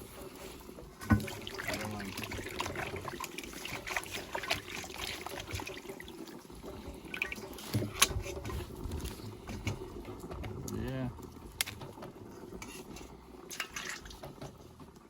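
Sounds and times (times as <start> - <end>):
water trickling and bubbling: 0.0 - 15.0.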